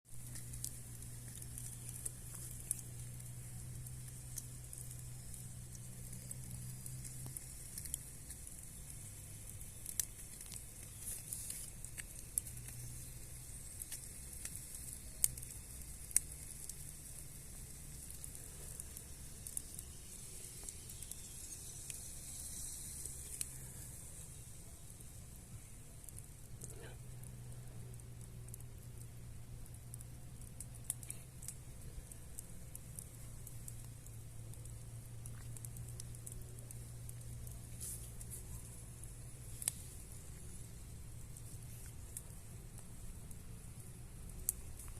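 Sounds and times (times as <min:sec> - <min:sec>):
wood fire crackling and popping: 0:00.0 - 0:44.9
sausages sizzling: 0:00.1 - 0:44.9.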